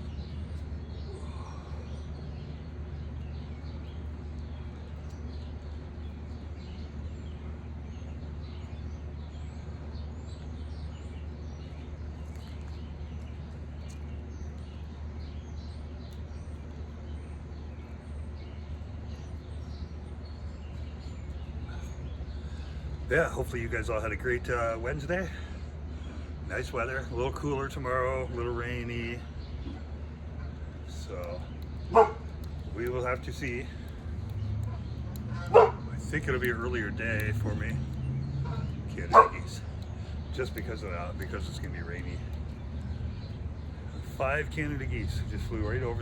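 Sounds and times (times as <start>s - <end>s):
small birds chirping: 0.0s - 46.0s
steady low rumble: 0.0s - 46.0s.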